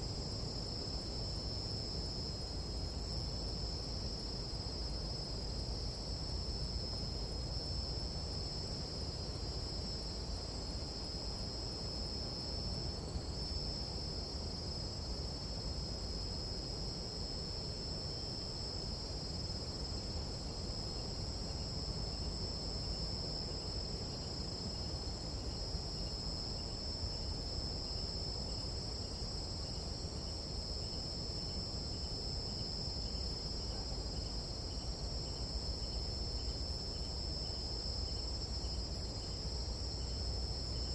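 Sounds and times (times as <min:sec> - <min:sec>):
low rumbling hiss: 0:00.0 - 0:40.9
night insects trilling: 0:00.0 - 0:40.9.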